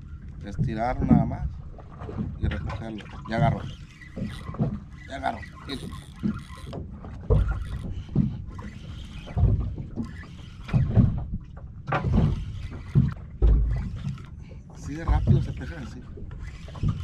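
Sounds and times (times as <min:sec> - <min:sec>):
water slapping against boat hull: 0:00.0 - 0:17.0.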